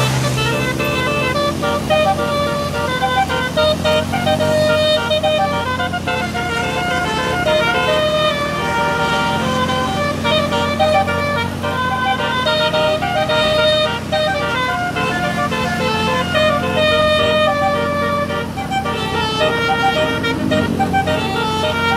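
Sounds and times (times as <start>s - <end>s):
bus engine humming: 0.0s - 21.9s
multi-tone bus horn tune: 0.0s - 21.9s.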